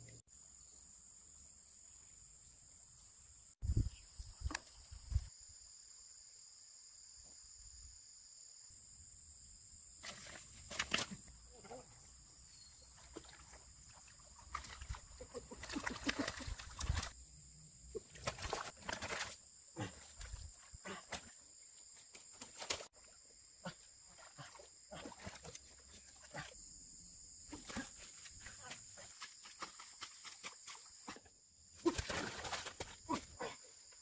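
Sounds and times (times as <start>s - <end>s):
high-pitched insect hum: 0.0s - 34.0s.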